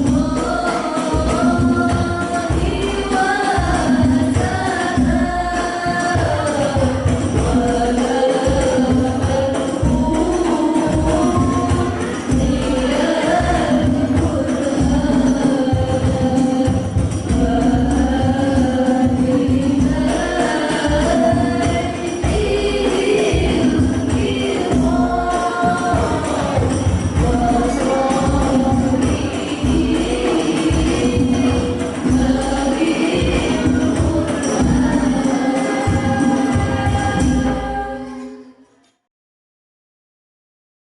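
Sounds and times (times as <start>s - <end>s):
frame drums: 0.0s - 38.1s
group devotional singing: 0.0s - 38.6s.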